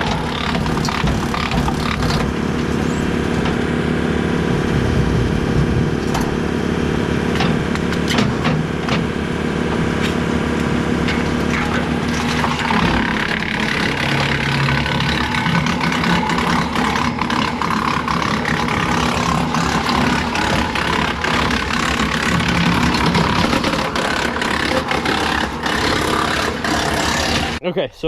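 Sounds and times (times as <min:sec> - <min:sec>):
wood chipper knocks and cracks: 0:00.0 - 0:03.7, 0:07.2 - 0:27.6
tractor engine drone: 0:00.0 - 0:28.0.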